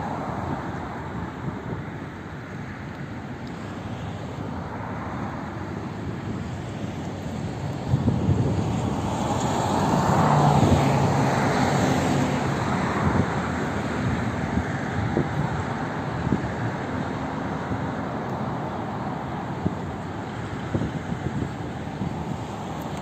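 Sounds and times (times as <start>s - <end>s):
jet engine rumble and whine: 0.0s - 23.0s.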